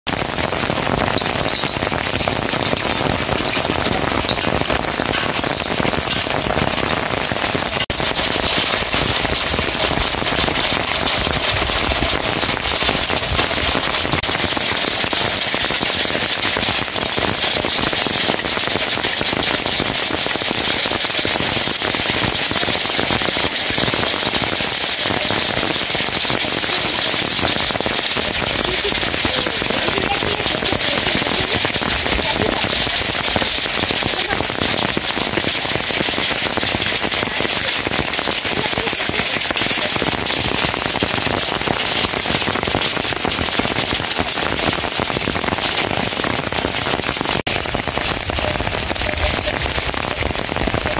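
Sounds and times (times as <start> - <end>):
steady rain falling: 0.1 - 50.9.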